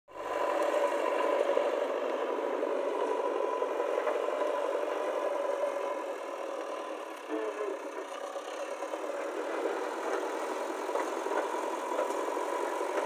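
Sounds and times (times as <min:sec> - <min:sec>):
constant whine: 0:00.1 - 0:13.0
diesel engine running: 0:00.1 - 0:13.0.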